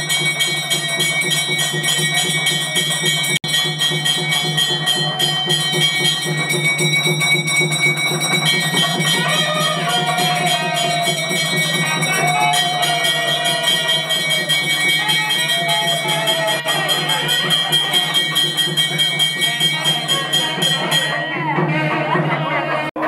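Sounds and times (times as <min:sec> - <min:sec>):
bells ringing: 0:00.0 - 0:23.0
wavering melody: 0:00.8 - 0:22.3.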